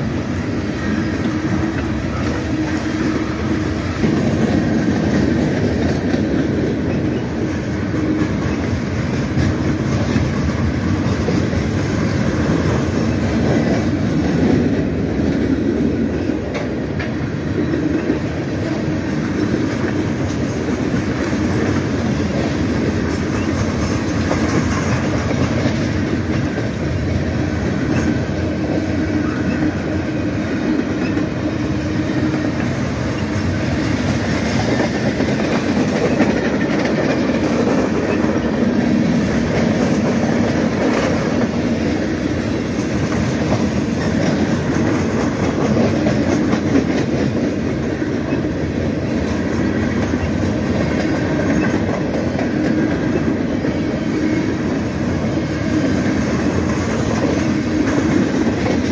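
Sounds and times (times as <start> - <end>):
freight train rumbling: 0.0 - 58.9.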